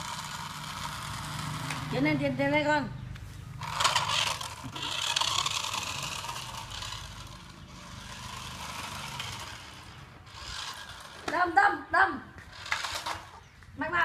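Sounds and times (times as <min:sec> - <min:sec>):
toy car motor whirring: 0:00.0 - 0:02.3, 0:03.6 - 0:11.6, 0:12.4 - 0:13.5
wheels scraping on concrete: 0:00.0 - 0:14.0.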